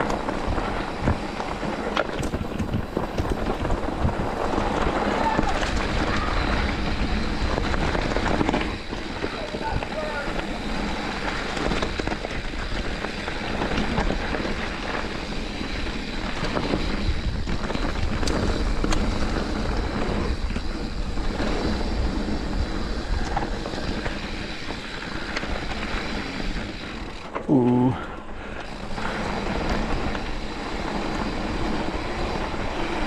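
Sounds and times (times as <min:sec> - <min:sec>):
wind rushing over microphone: 0:00.0 - 0:27.2
bike rattling and knocking: 0:00.0 - 0:33.0
tyres rolling on dirt trail: 0:00.0 - 0:33.0.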